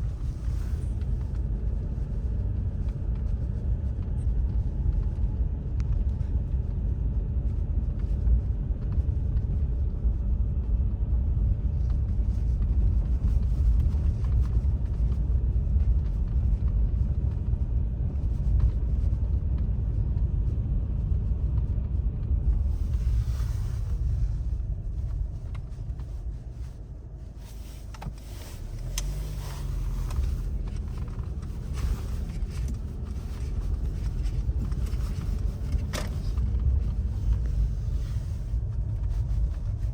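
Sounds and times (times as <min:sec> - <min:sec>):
vehicle rumbling through snow: 0:00.0 - 0:39.9.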